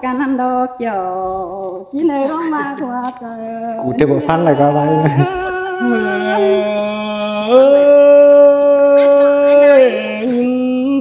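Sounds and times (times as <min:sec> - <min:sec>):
person singing unaccompanied: 0:00.0 - 0:11.0.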